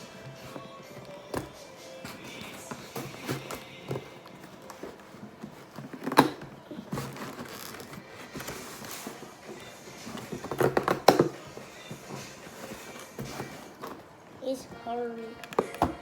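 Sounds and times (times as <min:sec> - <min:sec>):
cardboard box handling: 0:00.0 - 0:14.1.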